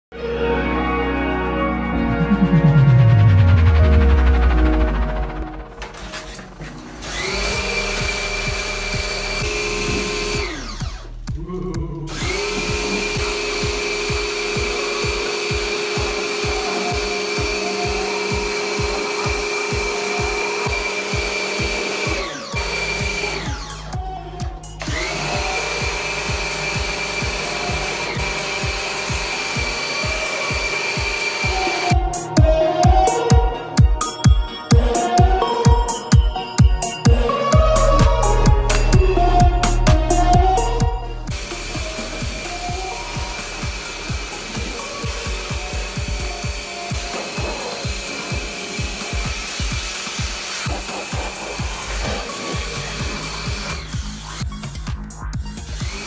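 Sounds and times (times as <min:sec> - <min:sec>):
pressure washer motor whine: 0:02.2 - 0:11.2, 0:12.1 - 0:33.8, 0:37.4 - 0:54.5.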